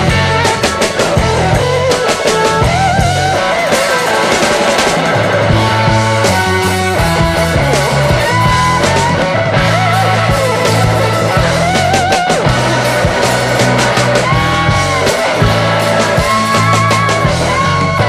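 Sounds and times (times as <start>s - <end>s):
rock music with electric guitar: 0.0s - 18.0s.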